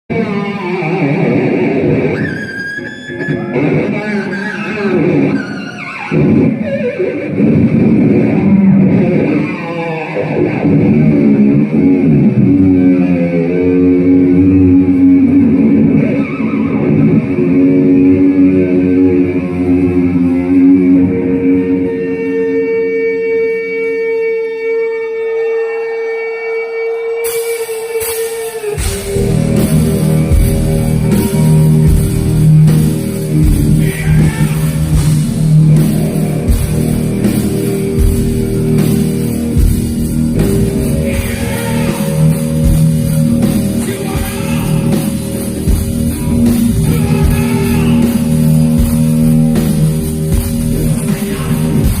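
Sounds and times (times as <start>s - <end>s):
heavy metal band playing: 0.1s - 52.0s.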